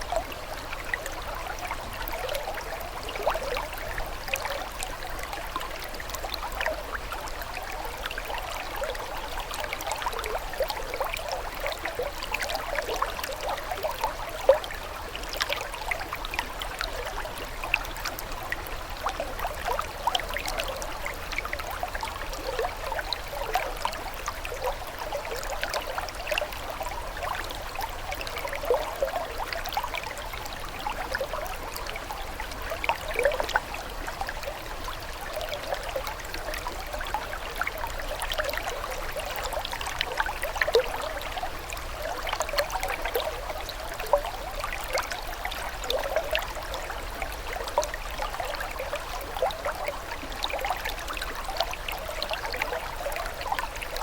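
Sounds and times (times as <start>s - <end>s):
water trickling and bubbling: 0.0s - 54.0s.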